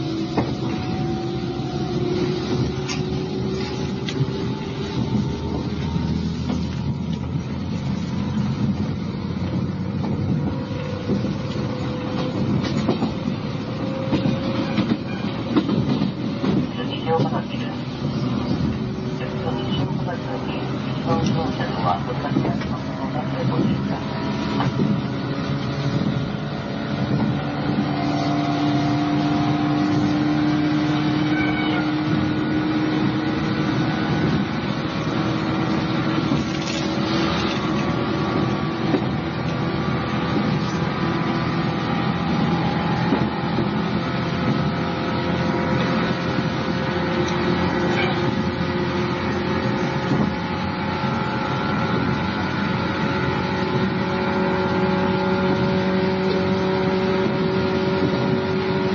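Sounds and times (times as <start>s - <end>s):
train wheels rumbling on track: 0.0s - 58.9s.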